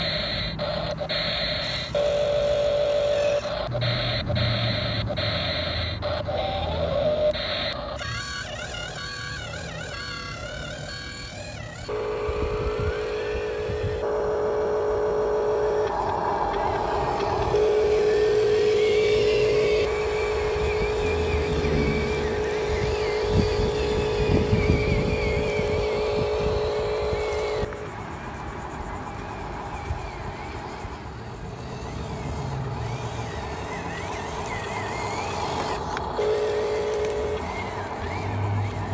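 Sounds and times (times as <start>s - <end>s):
toy vehicle motor whining: 0.0s - 38.9s.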